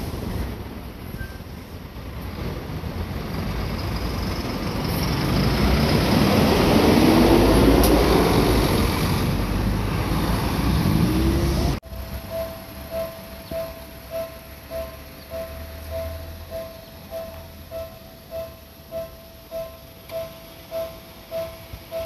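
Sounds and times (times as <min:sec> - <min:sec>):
truck and bus driving over rails: 0:00.0 - 0:22.0.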